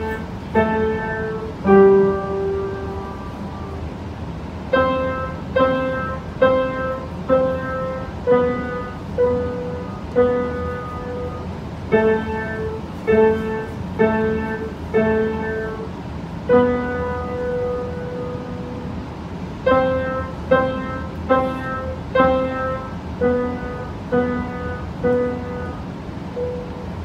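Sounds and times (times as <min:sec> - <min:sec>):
slow piano melody: 0:00.0 - 0:27.0.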